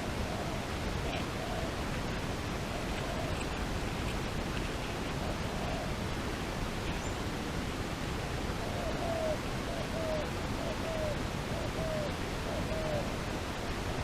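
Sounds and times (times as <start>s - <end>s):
dove cooing: 0.0s - 6.0s, 8.5s - 14.0s.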